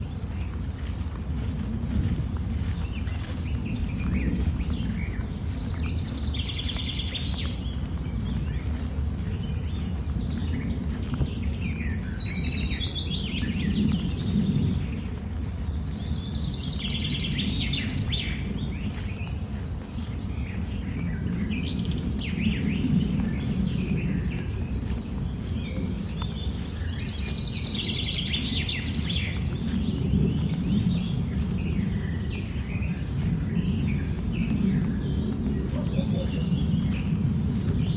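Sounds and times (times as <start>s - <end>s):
birds chirping: 0.0s - 37.9s
steady low rumble: 0.0s - 37.9s.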